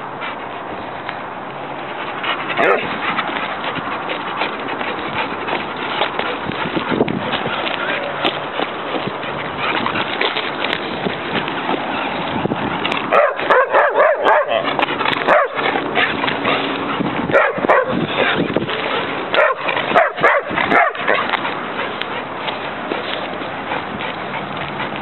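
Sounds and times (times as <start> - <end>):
running steps: 0.0 - 25.0.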